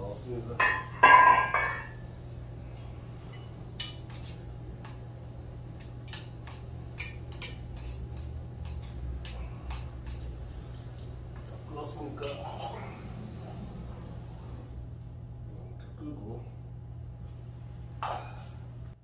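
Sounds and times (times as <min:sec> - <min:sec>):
low hum: 0:00.7 - 0:19.0.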